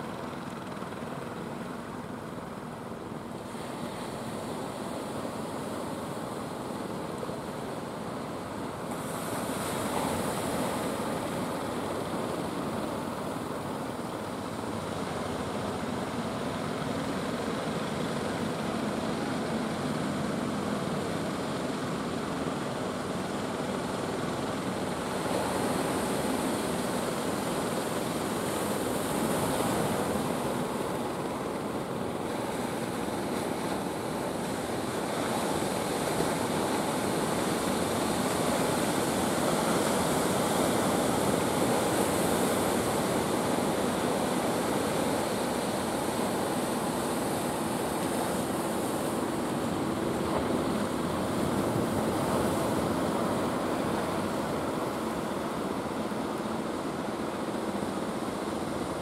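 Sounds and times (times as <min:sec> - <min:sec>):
ocean surf breaking: 0:03.3 - 0:59.0.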